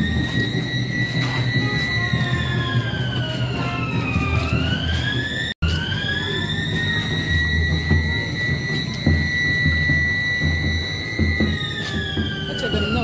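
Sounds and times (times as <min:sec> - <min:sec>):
vehicle siren wailing: 0:00.0 - 0:13.0.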